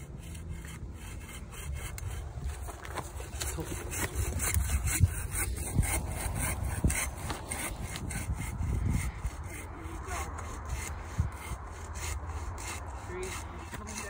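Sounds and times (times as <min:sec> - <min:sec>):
bow saw cutting wood: 0:00.0 - 0:14.0.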